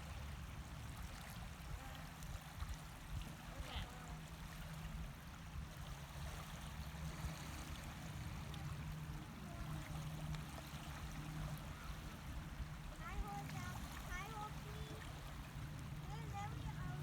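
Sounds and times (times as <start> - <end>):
water splashing along boat hull: 0.0 - 17.0.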